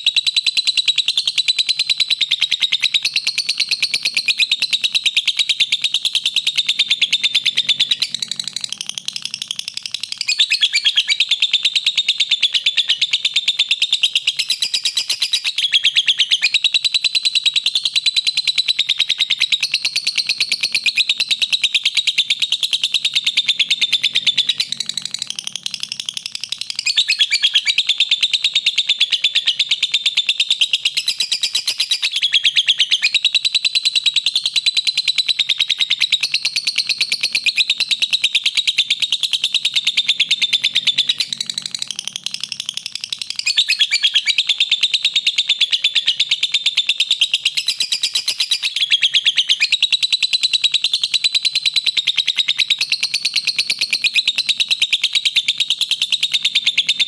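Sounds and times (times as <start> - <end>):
lovebird chattering trill: 0.0 - 57.0.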